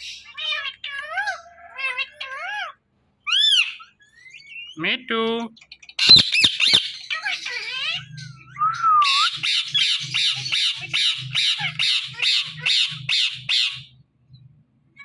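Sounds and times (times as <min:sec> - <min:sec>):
parakeets squawking: 0:00.0 - 0:14.1.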